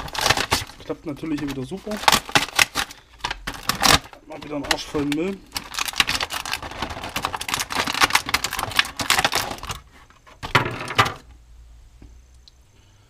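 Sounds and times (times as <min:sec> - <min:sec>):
plastic packaging crackling: 0:00.0 - 0:11.3.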